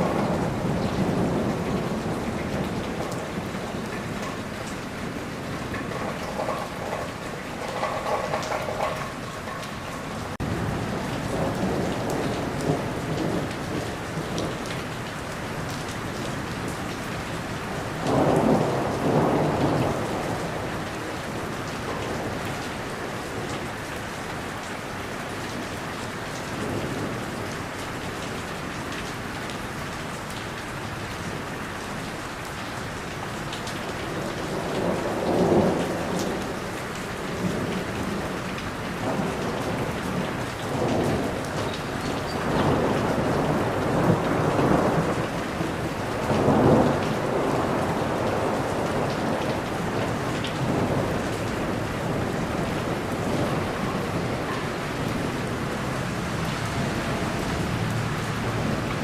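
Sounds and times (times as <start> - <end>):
thunder rumbling: 0.0 - 23.8, 34.0 - 59.0
steady rain: 0.0 - 59.0.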